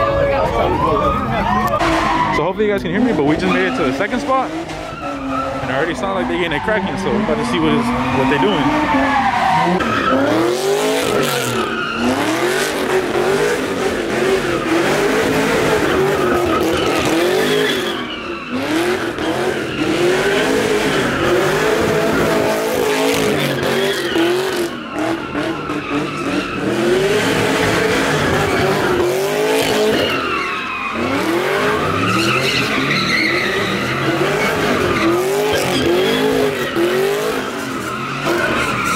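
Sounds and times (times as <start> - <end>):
car engine revving: 0.0 - 38.9
tyres squealing: 1.0 - 38.9.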